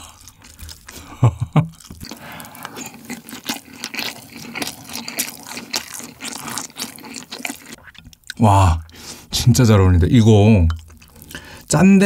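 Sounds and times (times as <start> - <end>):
wet chewing mouth clicks: 0.0 - 9.3, 10.7 - 11.8.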